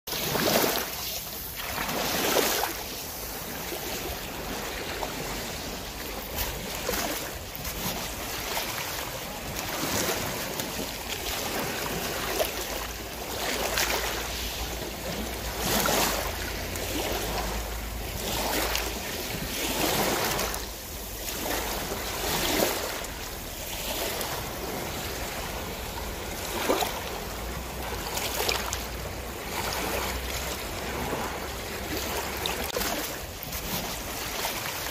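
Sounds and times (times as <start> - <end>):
sea water splashing: 0.1 - 34.9.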